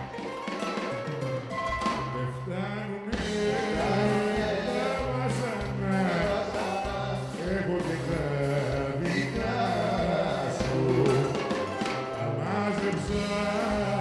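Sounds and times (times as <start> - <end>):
bouzouki: 0.0 - 14.0
man singing live: 2.0 - 14.0.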